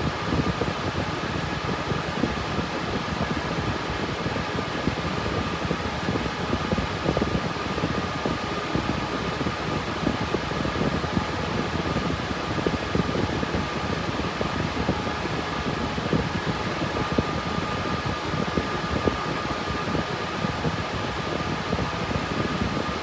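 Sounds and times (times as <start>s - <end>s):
cooling fans whining: 0.0s - 23.0s.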